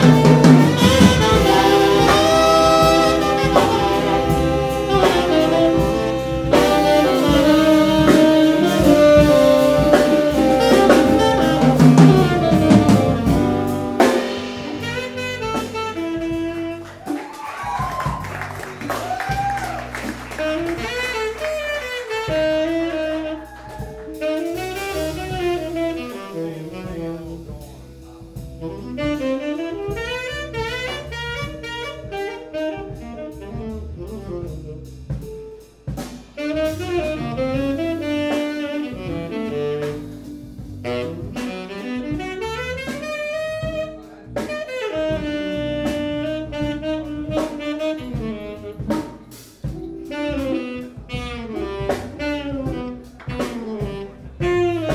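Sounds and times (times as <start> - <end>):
tenor saxophone melody: 0.0 - 17.4, 18.0 - 54.9
bass: 0.0 - 54.9
drum kit: 0.0 - 54.9.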